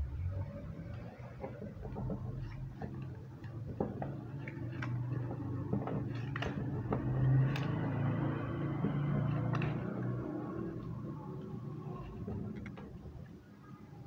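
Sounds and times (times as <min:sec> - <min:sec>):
paper folding and creasing: 0:00.4 - 0:13.5.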